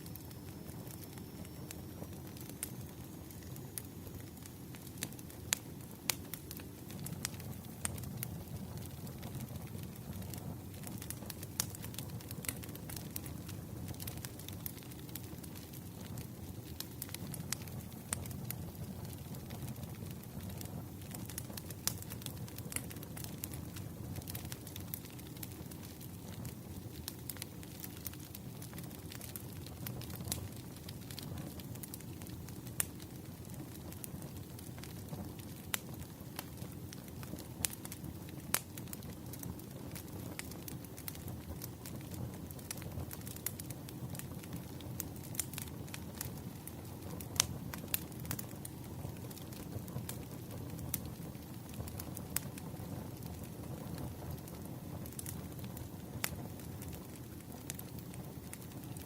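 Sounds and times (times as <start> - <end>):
low fire rumble: 0.0 - 59.0
wood fire crackling: 0.0 - 59.0.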